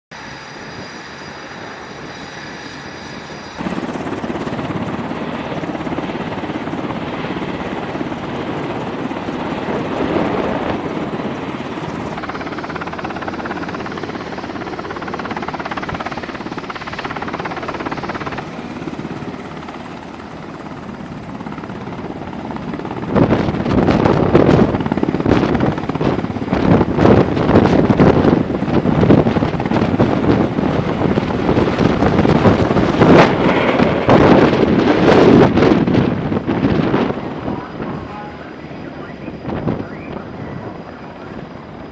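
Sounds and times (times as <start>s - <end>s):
helicopter engines and rotor: 0.1s - 41.9s.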